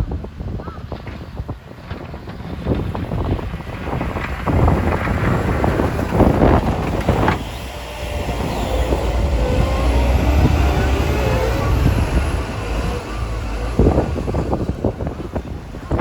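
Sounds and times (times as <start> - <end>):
heavy machinery engine rumble: 0.0 - 16.0
wind gust on microphone: 0.0 - 16.0.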